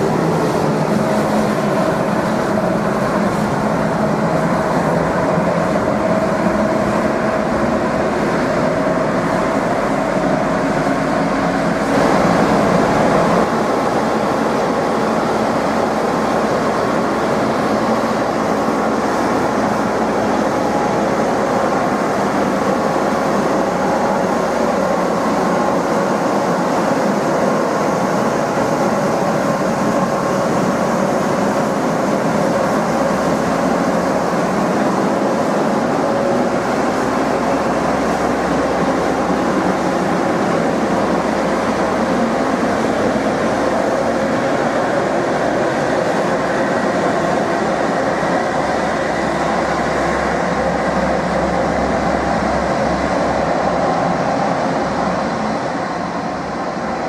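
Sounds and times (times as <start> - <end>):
train running: 0.0 - 57.0.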